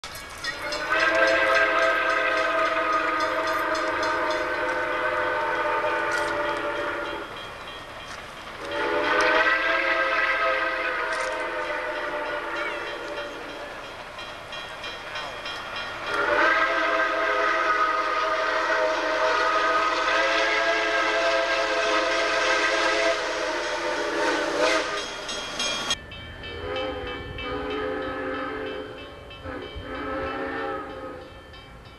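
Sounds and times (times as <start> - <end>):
steam whistle blasts: 0.5 - 7.4, 8.6 - 13.8, 16.1 - 31.4.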